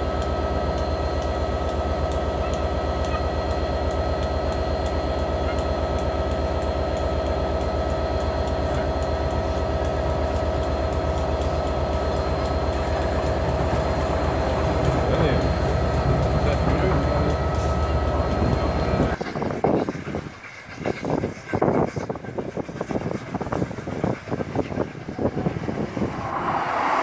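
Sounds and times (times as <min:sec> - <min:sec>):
train humming and rumbling: 0:00.0 - 0:27.0.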